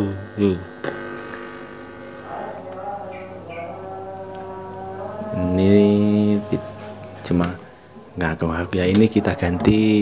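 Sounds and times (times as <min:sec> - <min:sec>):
loud electrical hum from speaker: 0:00.0 - 0:10.0.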